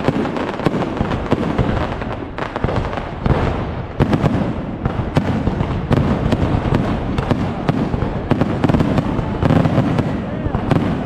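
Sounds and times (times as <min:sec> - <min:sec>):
fireworks booming: 0:00.0 - 0:11.0
fireworks cracking and crackling: 0:00.0 - 0:11.0.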